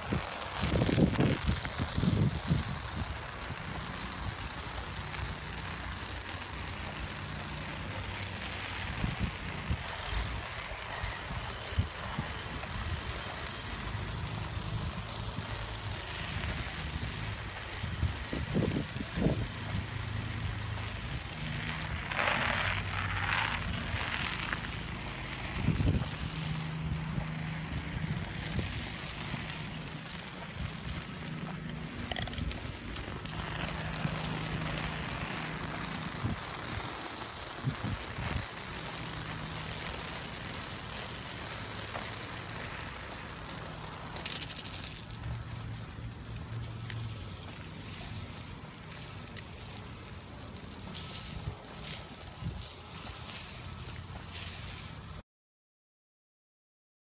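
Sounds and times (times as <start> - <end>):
chain dragging over asphalt: 0.0 - 55.2.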